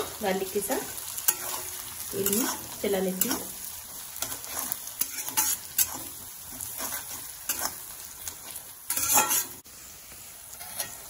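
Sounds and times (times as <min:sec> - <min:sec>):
spatula scraping pan: 0:00.0 - 0:09.6, 0:10.6 - 0:11.0
garlic sizzling in hot oil: 0:00.0 - 0:11.0.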